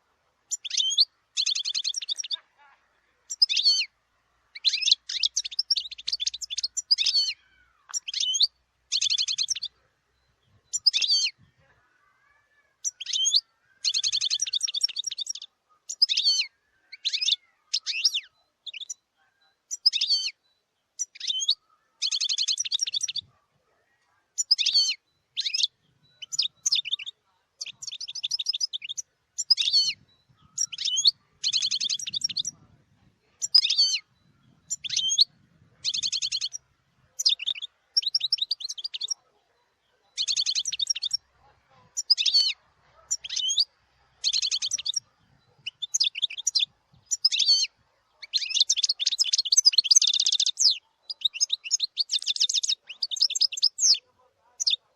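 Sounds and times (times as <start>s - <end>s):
goldfinch twittering song: 0.4s - 23.4s, 24.2s - 54.9s.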